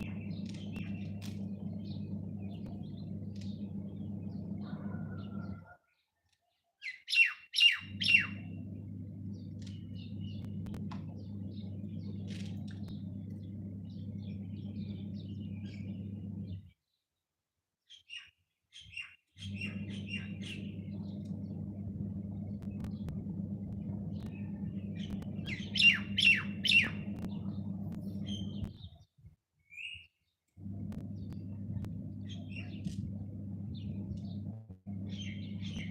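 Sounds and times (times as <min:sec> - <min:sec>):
steady low hum: 0:00.0 - 0:05.7, 0:07.8 - 0:16.7, 0:19.4 - 0:28.9, 0:30.6 - 0:35.9
small birds chirping: 0:00.0 - 0:17.1, 0:17.8 - 0:35.9.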